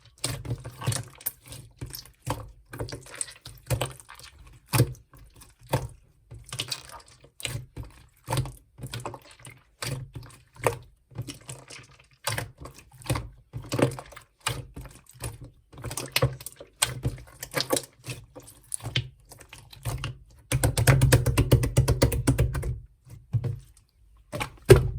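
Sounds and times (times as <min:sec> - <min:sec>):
slime squelching by hand: 0:00.1 - 0:24.9.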